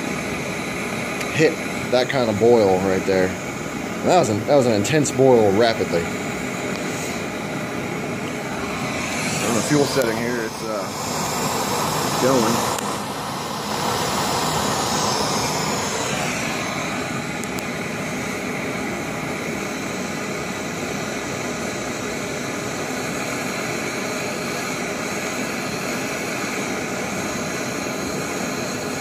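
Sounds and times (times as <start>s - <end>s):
gas stove burner roaring: 0.0s - 29.0s.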